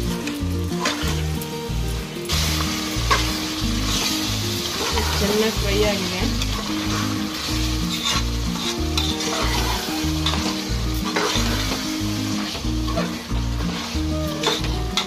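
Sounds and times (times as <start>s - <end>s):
background music with bass line: 0.0s - 15.0s
chicken sizzling in a pot: 0.0s - 15.0s.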